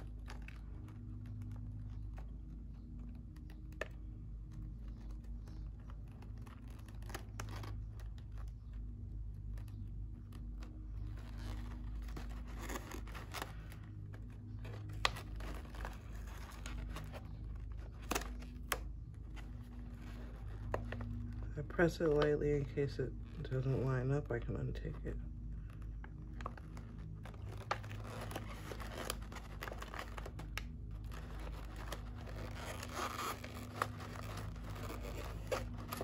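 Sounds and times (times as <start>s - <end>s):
paper wrapper rustling: 0.0s - 36.0s
steady low hum: 0.0s - 36.0s.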